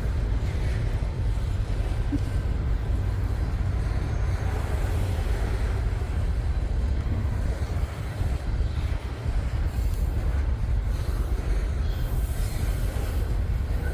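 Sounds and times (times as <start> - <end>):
freight train rumbling on rails: 0.0 - 13.9.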